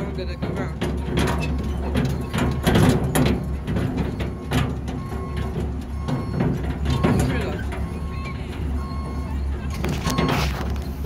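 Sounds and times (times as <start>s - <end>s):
small vehicle engine humming: 0.0s - 11.0s
vehicle rattles and knocks: 0.0s - 11.0s.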